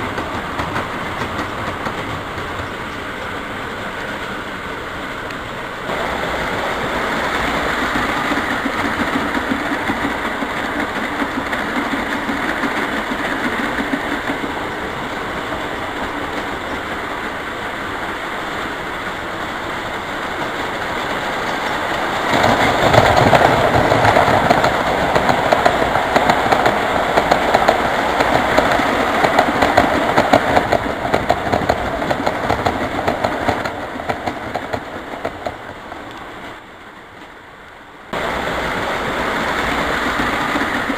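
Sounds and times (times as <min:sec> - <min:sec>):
wheels clicking on track: 0:00.0 - 0:04.4, 0:05.2 - 0:37.4, 0:38.2 - 0:40.9.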